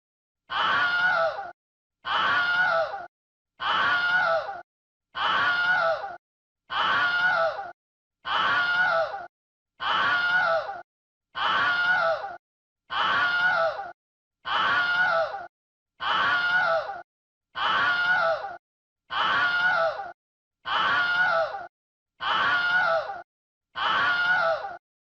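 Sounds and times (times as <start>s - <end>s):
human scream: 0.5s - 4.6s, 5.2s - 10.8s, 11.4s - 24.8s.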